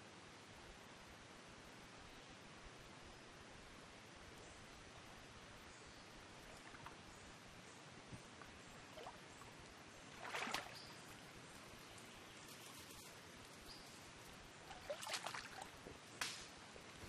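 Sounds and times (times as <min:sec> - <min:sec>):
faint stream trickling: 0:01.6 - 0:17.0.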